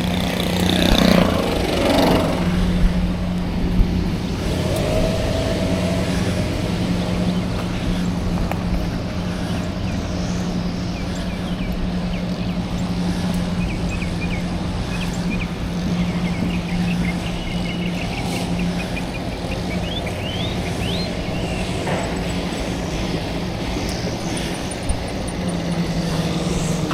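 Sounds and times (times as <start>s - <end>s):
bicycle rolling noise: 0.0s - 26.9s
birds chirping: 0.0s - 26.9s
constant low hum: 0.0s - 26.9s
wind: 0.0s - 26.9s.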